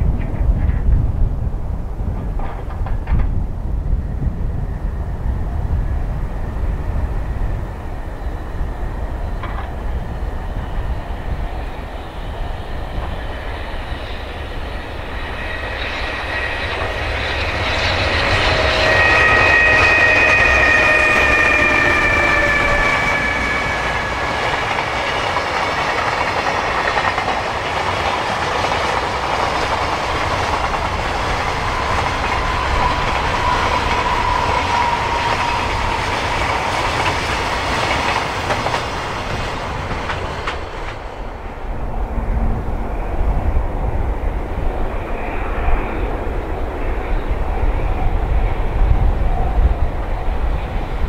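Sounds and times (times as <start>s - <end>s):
approaching train rumble: 0.0s - 51.0s
freight train wheels clickety-clack: 0.0s - 51.0s
train wheel squeal: 3.9s - 51.0s.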